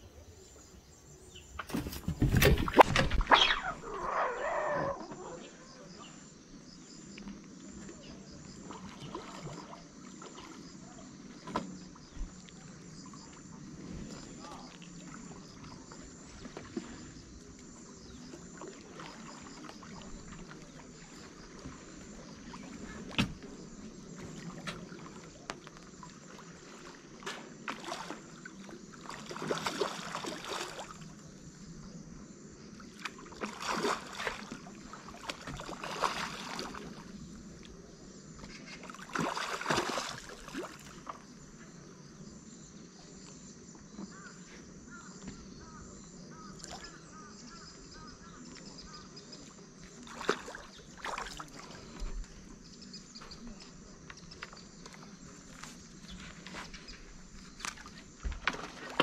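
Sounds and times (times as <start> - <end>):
water splashing and sloshing: 1.5 - 42.1, 46.4 - 59.0.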